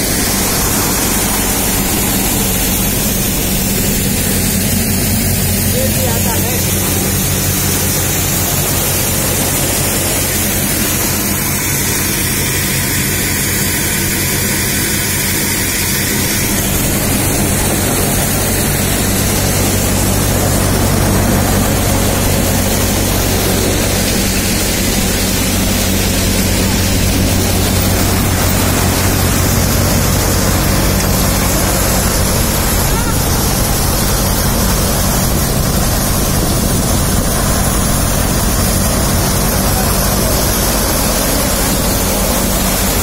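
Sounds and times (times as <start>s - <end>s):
rushing hiss of grain: 0.0s - 43.0s
thresher running: 0.0s - 43.0s.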